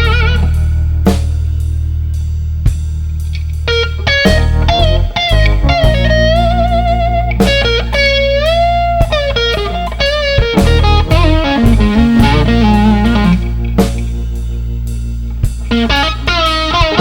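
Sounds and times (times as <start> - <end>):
bass guitar: 0.0 - 17.0
drums: 0.0 - 17.0
electric guitar blues lead: 0.0 - 17.0.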